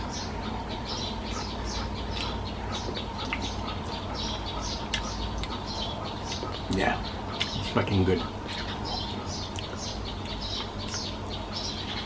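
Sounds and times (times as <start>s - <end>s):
bird chirping: 0.0s - 12.0s
steady low hum: 0.0s - 12.0s.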